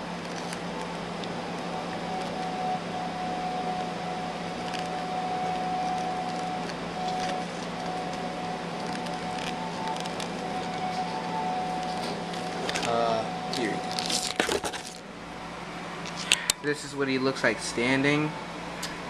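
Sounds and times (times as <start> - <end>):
faint thin whine: 0.0 - 19.0
room hum and hiss: 0.0 - 19.0.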